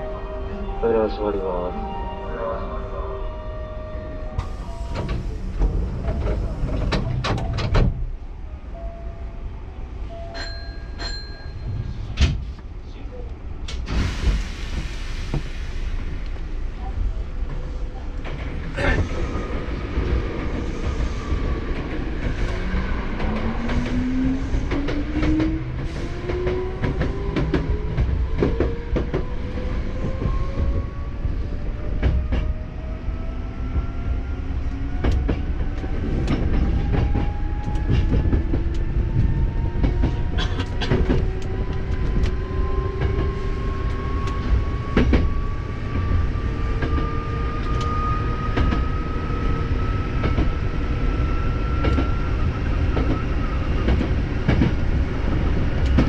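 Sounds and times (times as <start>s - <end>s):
train running rumble: 4.4s - 8.4s, 10.1s - 33.0s, 33.6s - 56.0s.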